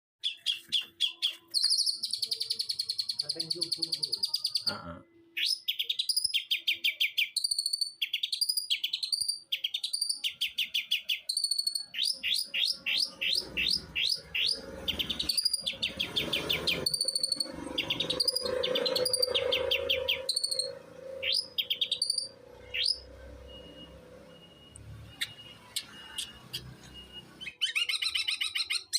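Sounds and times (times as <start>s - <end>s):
bird chirping in rapid trills: 0.2s - 4.7s, 5.3s - 28.9s.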